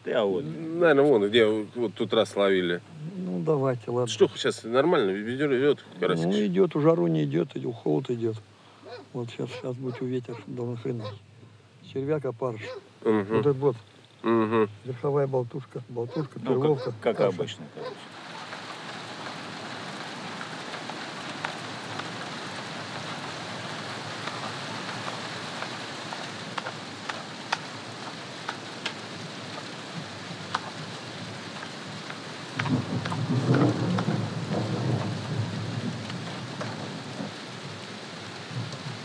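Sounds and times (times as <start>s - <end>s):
raindrops ticking on surfaces: 0.0s - 39.0s
steady rain falling: 0.0s - 39.0s.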